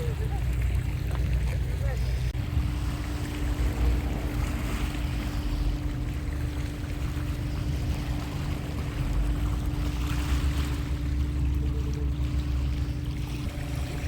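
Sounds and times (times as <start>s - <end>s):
wind buffeting the microphone: 0.0s - 11.4s
steady low hum: 0.0s - 14.0s
sea surf washing in: 1.8s - 14.0s.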